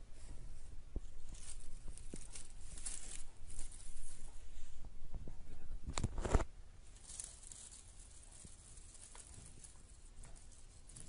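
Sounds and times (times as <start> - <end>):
rustling against fabric: 0.0 - 11.0.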